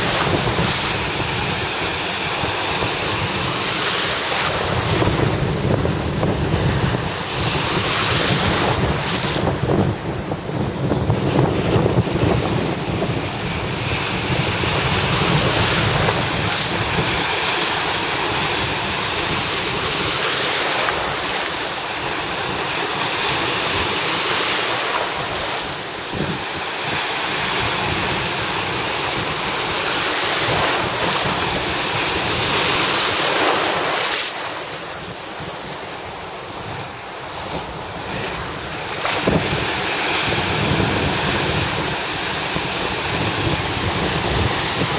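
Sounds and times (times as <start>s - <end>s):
small surf breaking: 0.0s - 44.9s
wind buffeting microphone: 0.0s - 44.9s.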